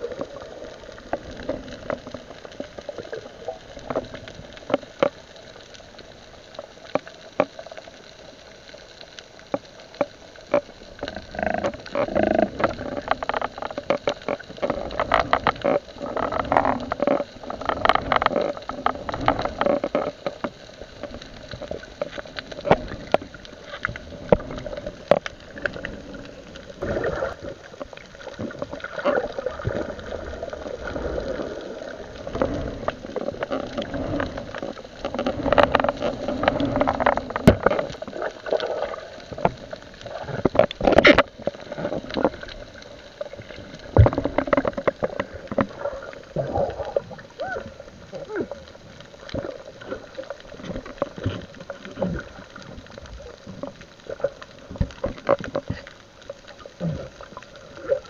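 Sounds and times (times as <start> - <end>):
water gurgling and sloshing: 0.0 - 58.0.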